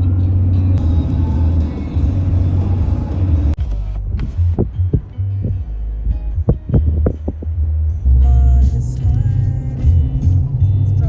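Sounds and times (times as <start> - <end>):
background music: 0.0 - 11.0
steady low rumble: 0.0 - 11.0.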